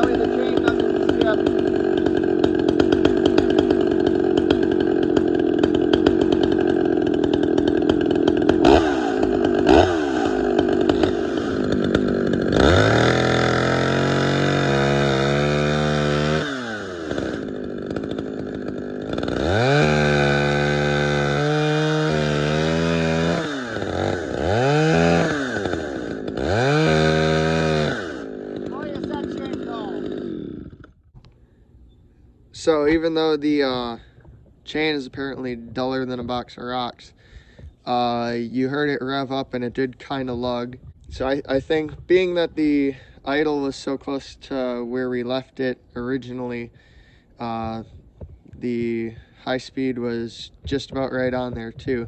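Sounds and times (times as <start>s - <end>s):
chainsaw idling and revving: 0.0s - 31.6s, 32.6s - 52.0s.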